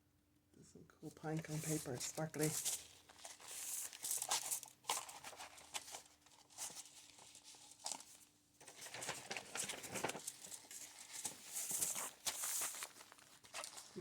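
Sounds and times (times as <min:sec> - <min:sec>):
paper pages rustling: 0:01.3 - 0:14.0.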